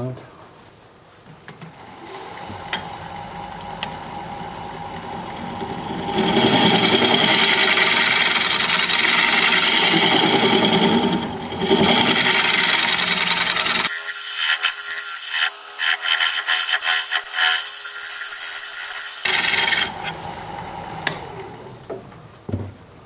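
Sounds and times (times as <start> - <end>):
lathe motor running: 1.8 - 21.8
steel scraper cutting wood: 2.1 - 21.7.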